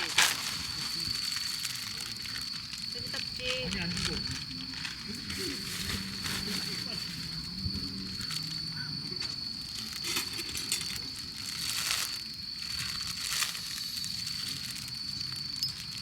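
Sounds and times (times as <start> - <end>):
crackles and crunches: 0.0 - 16.0
high-pitched insect trill: 0.0 - 16.0.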